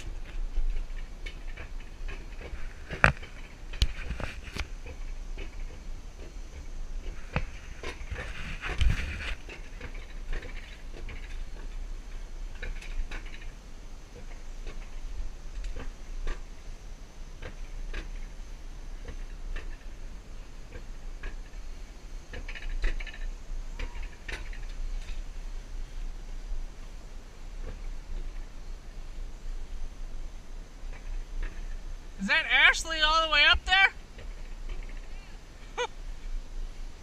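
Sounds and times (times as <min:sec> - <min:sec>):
coaster cart rumbling on metal rails: 0:00.0 - 0:37.0.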